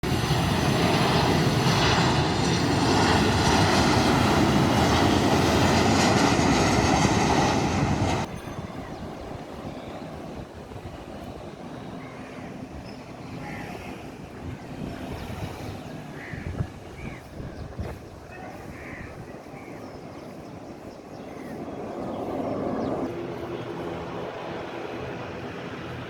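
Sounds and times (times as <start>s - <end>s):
jet engines roaring and whining: 0.0s - 26.0s.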